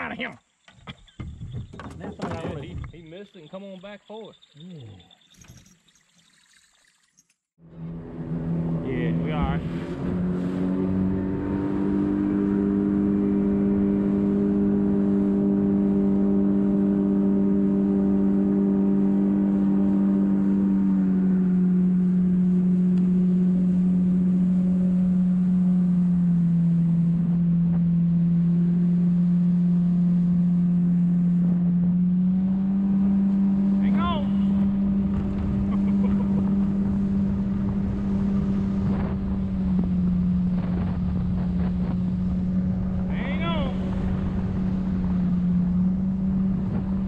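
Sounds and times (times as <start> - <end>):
outboard motor running: 0.0 - 3.2, 7.1 - 47.0.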